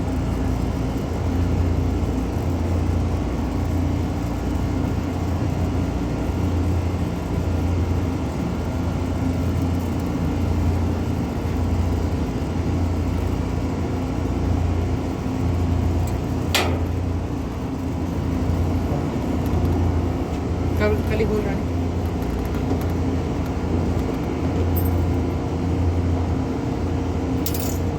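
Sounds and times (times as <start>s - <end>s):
low machine hum: 0.0s - 27.9s.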